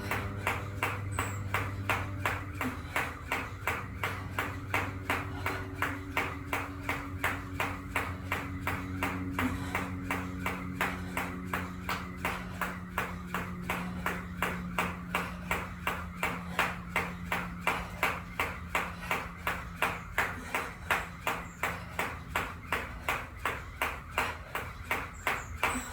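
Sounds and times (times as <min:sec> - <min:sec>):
feet landing: 0:00.0 - 0:25.9
jump rope slapping floor: 0:00.0 - 0:25.9.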